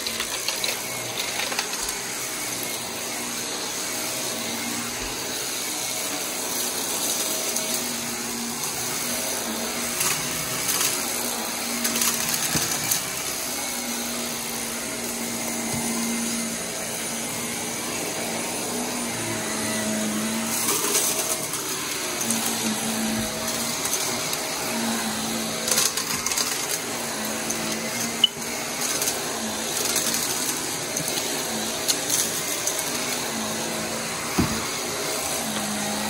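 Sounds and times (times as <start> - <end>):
vacuum cleaner running on carpet: 0.0 - 36.0.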